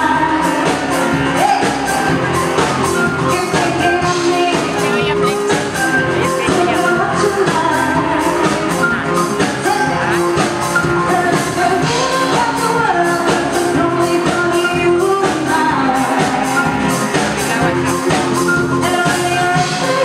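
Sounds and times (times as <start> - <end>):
drum kit beat: 0.0 - 20.0
electric bass: 0.0 - 20.0
woman singing: 0.0 - 20.0.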